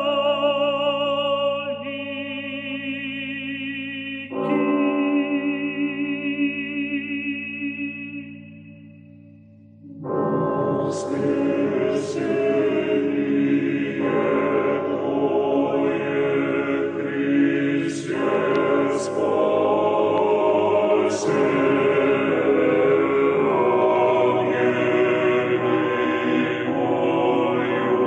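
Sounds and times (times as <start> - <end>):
choir singing held chords: 0.0 - 8.3, 9.8 - 28.0.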